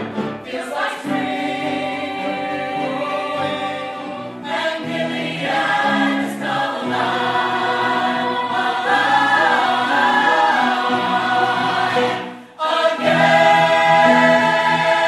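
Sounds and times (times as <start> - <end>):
musical accompaniment: 0.0 - 15.0
voices singing together: 0.0 - 15.0.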